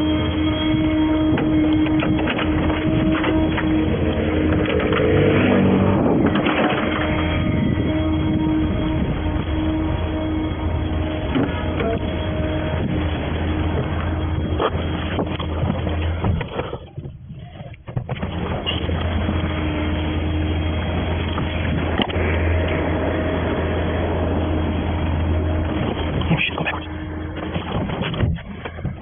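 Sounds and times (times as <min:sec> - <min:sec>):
vehicle engine and road drone: 0:00.0 - 0:29.0.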